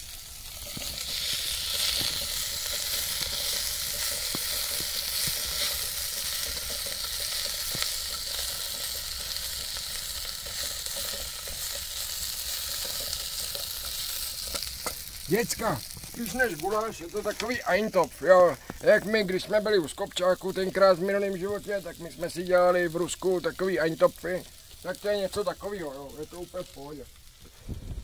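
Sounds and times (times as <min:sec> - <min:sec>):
food sizzling in a kettle: 0:00.0 - 0:28.0.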